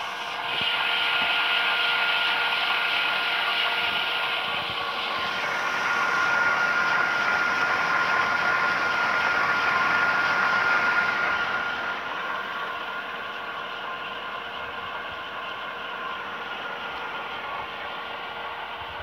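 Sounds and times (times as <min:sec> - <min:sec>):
electric pump motor humming: 0:00.0 - 0:19.0
high whine: 0:00.0 - 0:19.0.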